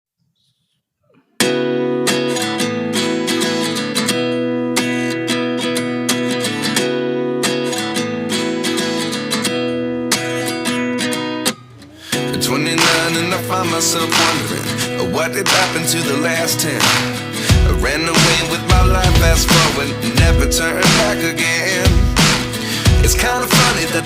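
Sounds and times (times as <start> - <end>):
acoustic guitar strumming: 1.4 - 24.0.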